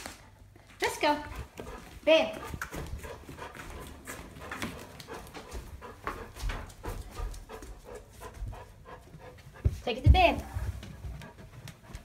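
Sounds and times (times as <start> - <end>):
dog paws tapping: 0.5 - 12.0.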